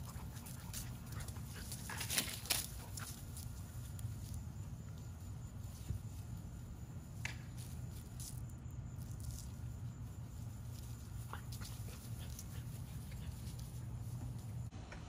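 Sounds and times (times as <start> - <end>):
dog paws pattering on grass: 0.0 - 14.7.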